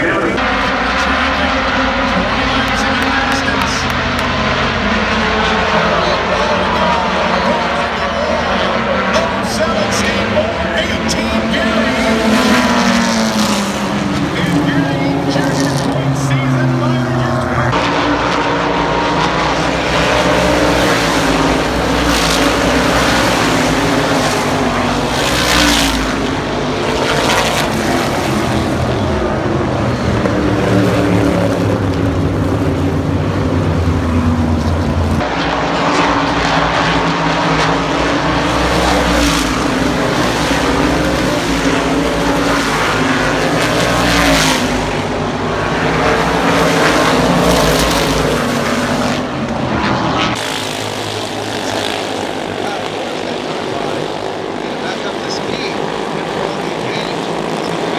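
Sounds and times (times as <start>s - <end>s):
racing engines running hard: 0.0s - 57.9s.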